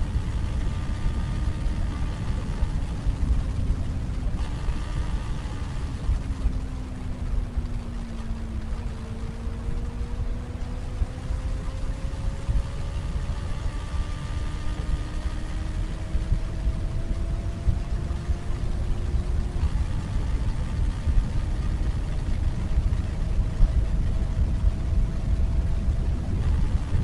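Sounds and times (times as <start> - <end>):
motorcycle engine: 0.0 - 27.0
wind buffeting microphone: 0.0 - 27.0.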